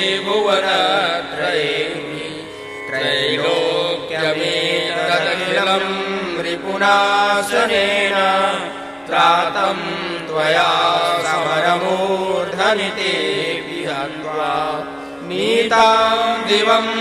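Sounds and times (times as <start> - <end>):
person chanting hymn verses: 0.0 - 17.0
steady drone: 0.0 - 17.0.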